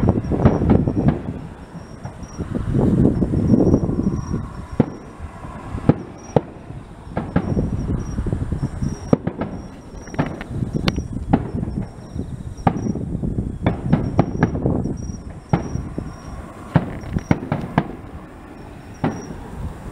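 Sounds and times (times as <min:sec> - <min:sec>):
fireworks bangs and crackles: 0:00.0 - 0:19.9
low rumble: 0:00.0 - 0:19.9.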